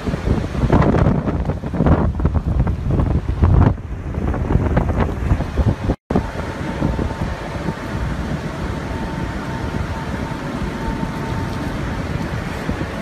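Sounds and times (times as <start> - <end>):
rushing rain and floodwater: 0.0 - 13.0
wind buffeting microphone: 0.0 - 13.0.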